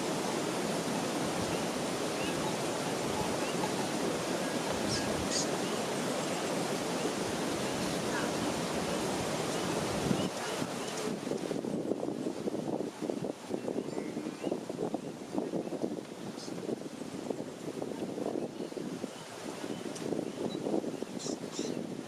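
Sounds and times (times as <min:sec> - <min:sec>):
flowing water rushing: 0:00.0 - 0:22.0.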